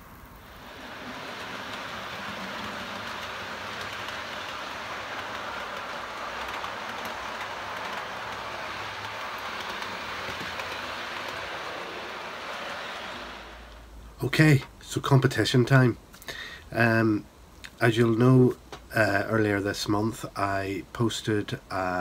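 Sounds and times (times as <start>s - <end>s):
model train wheels on rails: 0.0s - 15.9s, 17.7s - 22.0s.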